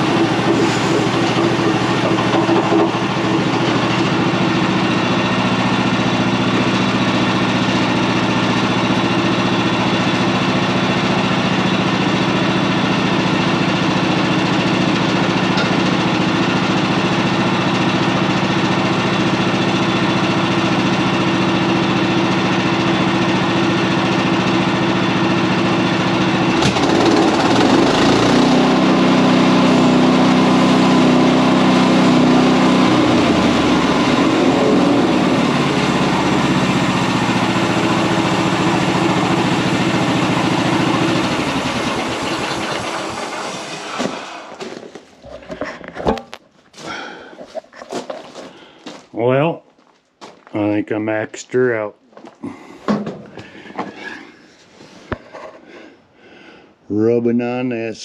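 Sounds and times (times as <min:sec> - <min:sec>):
gasoline engine running: 0:00.0 - 0:48.8, 0:52.2 - 0:55.7.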